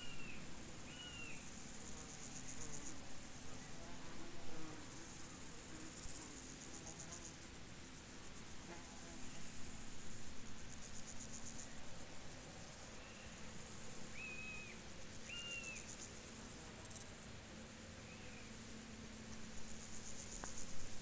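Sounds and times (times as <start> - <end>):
crickets chirping: 0.0 - 4.3, 5.0 - 21.0.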